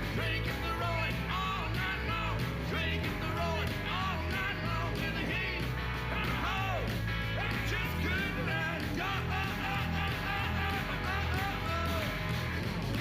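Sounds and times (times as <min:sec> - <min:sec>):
rock and roll band playing: 0:00.0 - 0:13.0.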